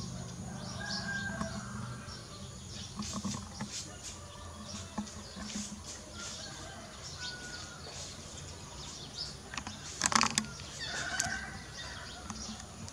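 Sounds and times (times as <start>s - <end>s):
birds chirping and calling: 0.0s - 12.9s
insects: 0.0s - 12.9s.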